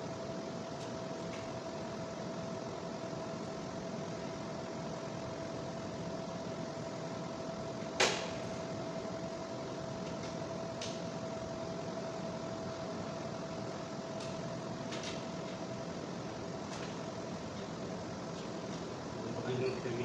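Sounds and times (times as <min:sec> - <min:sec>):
faint high whine: 0:00.0 - 0:20.0
room hum: 0:00.0 - 0:20.0.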